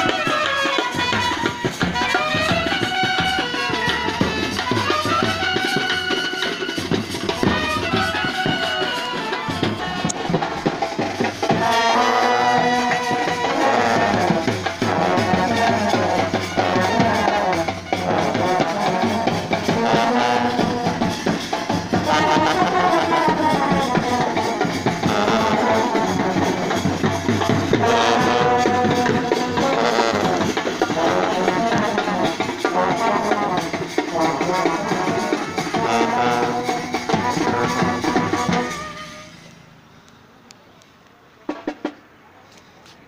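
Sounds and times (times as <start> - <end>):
brass horns: 0.0 - 39.8
drums: 0.0 - 39.9, 40.6 - 43.0.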